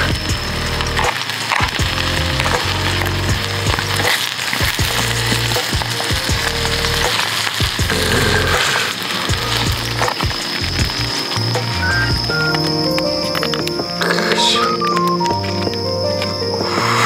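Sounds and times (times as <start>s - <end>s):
background music with bass: 0.0s - 17.0s
food sizzling in a foil tray: 0.1s - 15.4s
chopsticks scraping foil: 0.7s - 15.3s.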